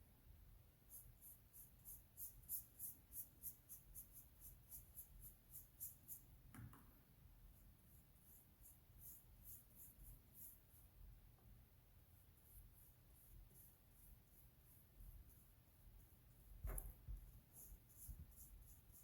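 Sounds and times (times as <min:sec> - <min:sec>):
paintbrush dabbing on paper: 0:00.8 - 0:06.8, 0:07.4 - 0:19.0.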